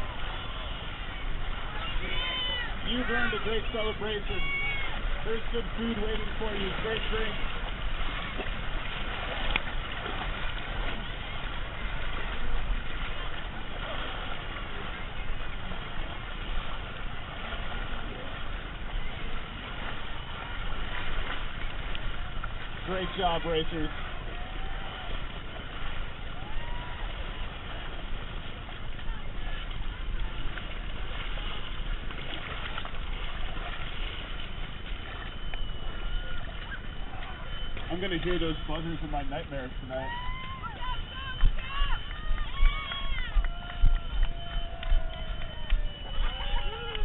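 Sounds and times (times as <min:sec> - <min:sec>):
rumbling rustling of crawling through mud: 0:00.0 - 0:47.0.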